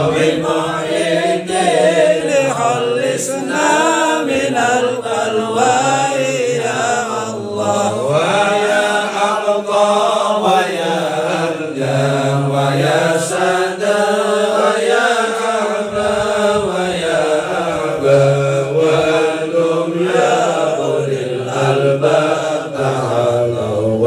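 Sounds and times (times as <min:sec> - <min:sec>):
men chanting together: 0:00.0 - 0:24.0.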